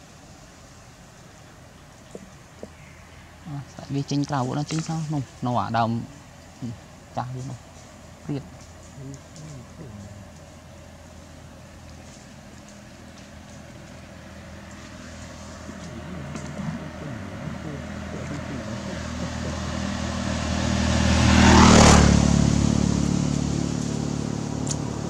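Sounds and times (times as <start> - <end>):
vehicle engine passing: 3.2 - 25.0.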